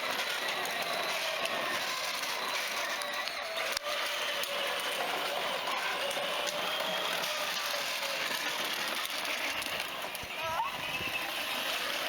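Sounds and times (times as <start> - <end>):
electric toy motorbike whirring: 0.0 - 12.0.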